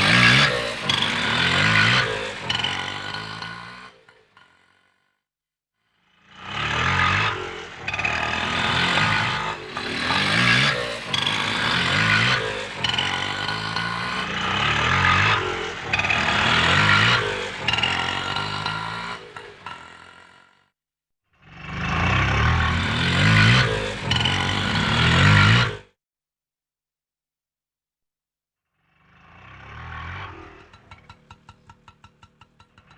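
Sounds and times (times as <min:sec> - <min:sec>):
small engine revving: 0:00.0 - 0:05.2, 0:05.9 - 0:20.7, 0:21.3 - 0:26.0, 0:28.8 - 0:32.9.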